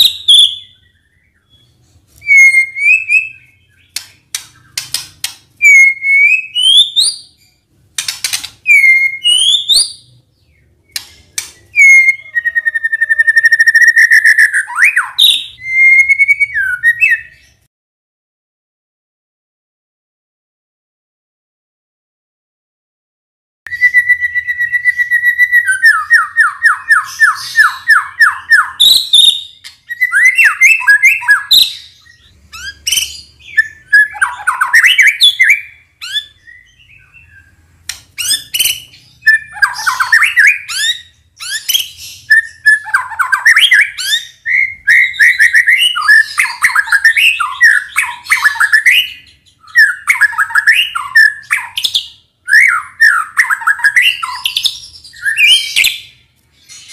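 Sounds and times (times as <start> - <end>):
songbird whistling and chattering: 0.0 - 17.6, 23.7 - 56.9.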